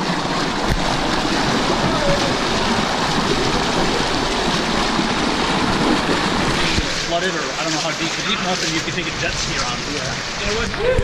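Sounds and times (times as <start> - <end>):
river water rushing over boulders: 0.0 - 11.0.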